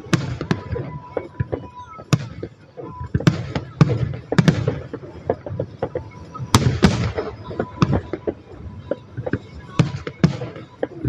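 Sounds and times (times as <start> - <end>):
fireworks booms and pops: 0.0 - 11.0
fireworks crackling: 0.0 - 11.0.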